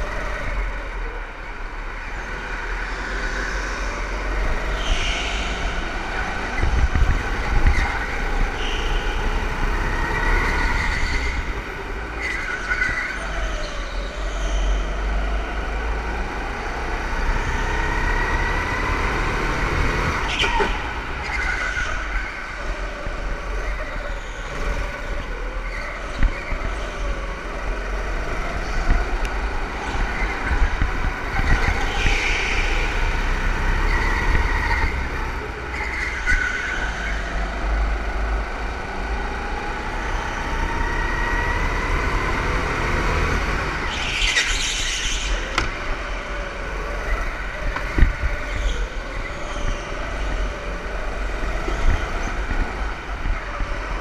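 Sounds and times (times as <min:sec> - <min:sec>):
go-kart motors: 0:00.0 - 0:54.0.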